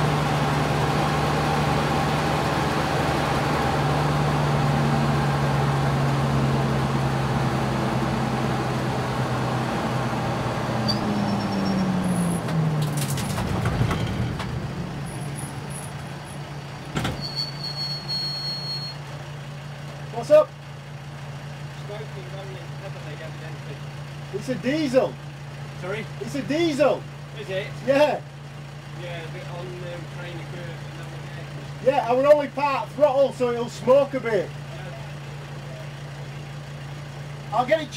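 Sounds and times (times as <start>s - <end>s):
race car engine: 0.0s - 37.9s.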